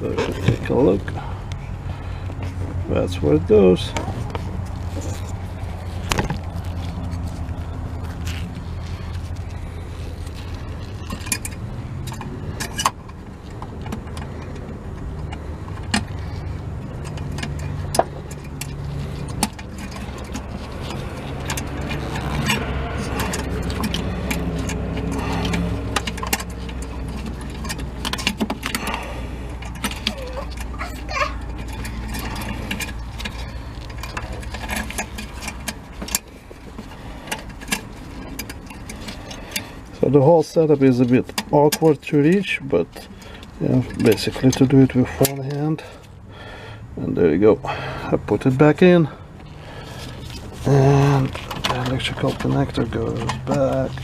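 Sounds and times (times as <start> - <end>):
low steady rumble: 0.0 - 54.0.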